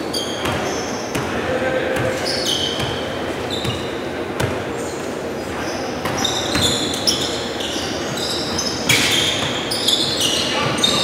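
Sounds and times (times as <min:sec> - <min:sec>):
sneakers squeaking on floor: 0:00.0 - 0:01.4, 0:02.0 - 0:11.0.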